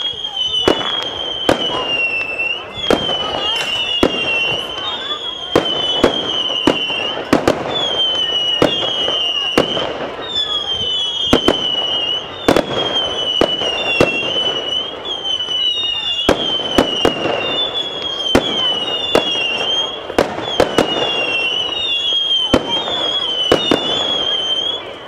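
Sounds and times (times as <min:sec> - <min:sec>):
fireworks bangs: 0:00.0 - 0:25.0
fireworks whistling: 0:00.0 - 0:25.0.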